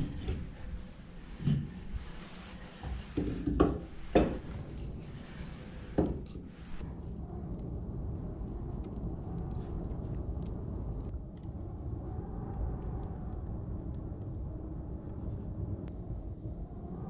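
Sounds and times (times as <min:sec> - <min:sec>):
fire low rumble: 0:00.0 - 0:17.0.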